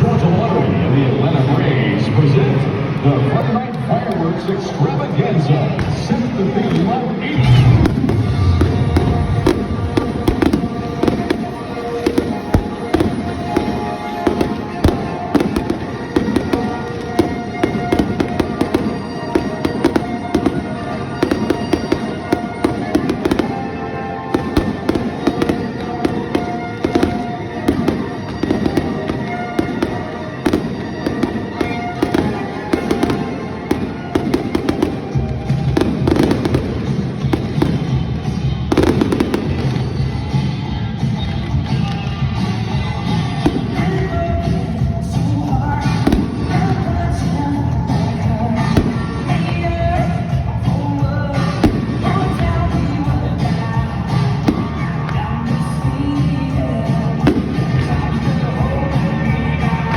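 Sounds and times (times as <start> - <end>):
music playing: 0.0 - 59.9
fireworks bangs and crackles: 5.7 - 59.9.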